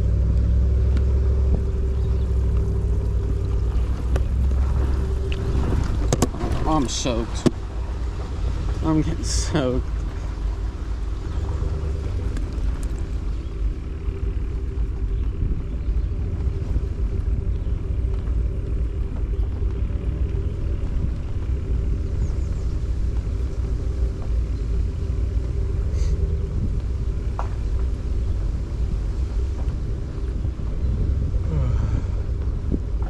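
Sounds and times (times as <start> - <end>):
steady hum: 0.0 - 33.0
vehicle low rumble: 0.0 - 33.0.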